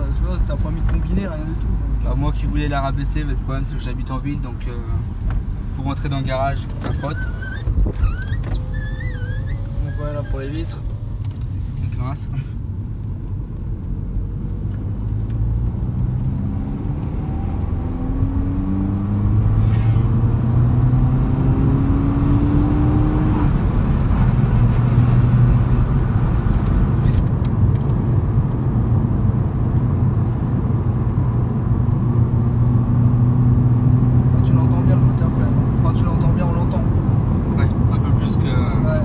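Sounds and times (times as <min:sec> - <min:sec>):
car engine heard from cabin: 0:00.0 - 0:39.0
tyre and road noise: 0:00.0 - 0:39.0.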